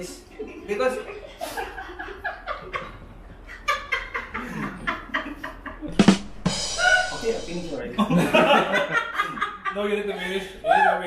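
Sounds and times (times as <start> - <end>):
people laughing and snickering: 0.4 - 10.6.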